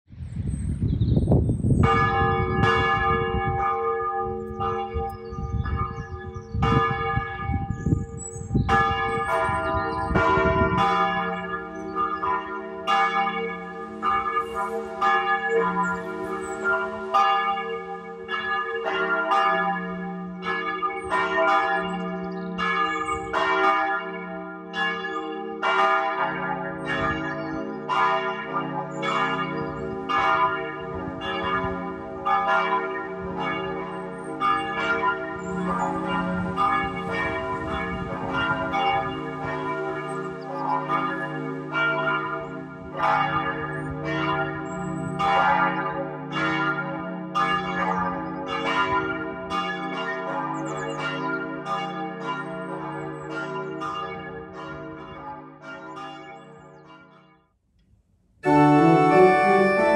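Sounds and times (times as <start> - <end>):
church bells pealing: 1.8 - 57.3, 58.4 - 59.9.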